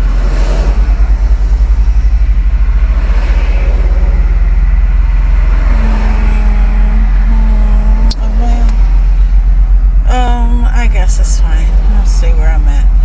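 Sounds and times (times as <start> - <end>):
road rumble with pulsing flutter: 0.0 - 13.0
steady low hum: 0.0 - 13.0.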